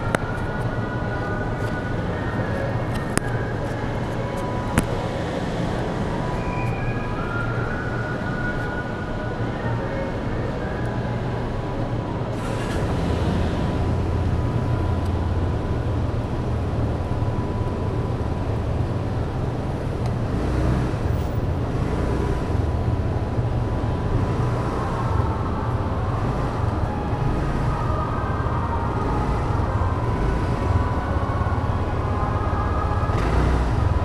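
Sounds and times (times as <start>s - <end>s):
vehicle engines: 0.0s - 34.0s
ventilation rumble: 0.0s - 34.0s.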